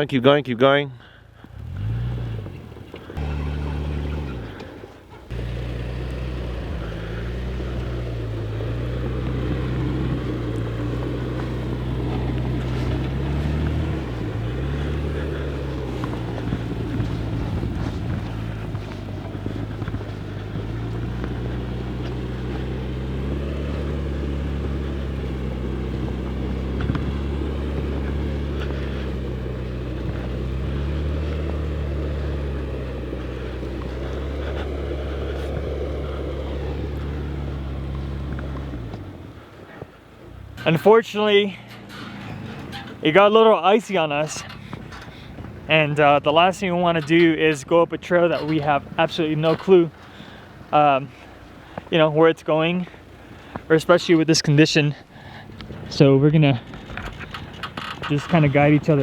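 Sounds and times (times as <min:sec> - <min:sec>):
truck engine running at low revs: 0:01.0 - 0:59.0.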